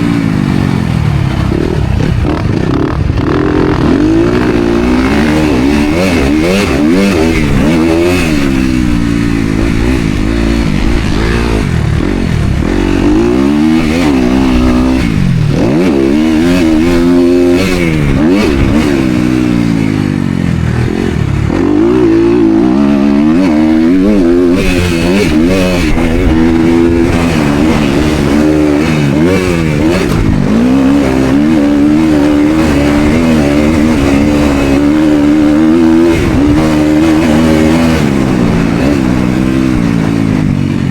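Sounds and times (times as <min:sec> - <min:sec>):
dirt bike engine revving: 0:00.0 - 0:40.9
second dirt bike engine: 0:00.0 - 0:40.9.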